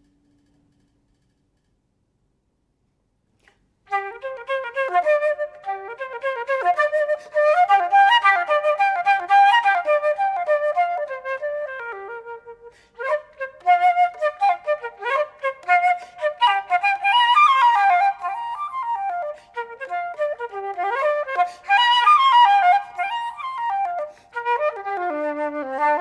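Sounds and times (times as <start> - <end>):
flute playing quick runs: 3.9 - 26.0.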